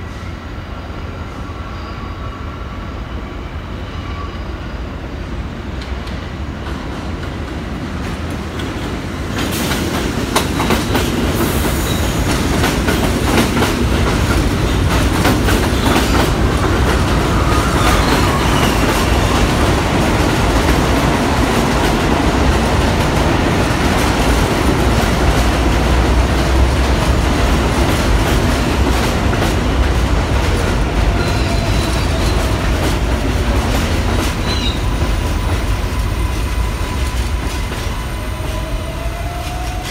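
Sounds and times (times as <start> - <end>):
train wheels clattering on rails: 5.7 - 39.9.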